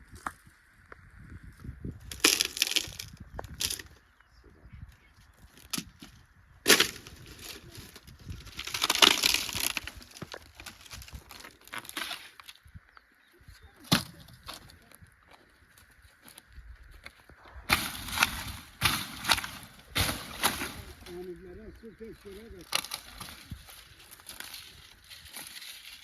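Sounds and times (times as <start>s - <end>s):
dry sticks crunching and cracking: 1.9s - 13.1s, 13.7s - 26.0s.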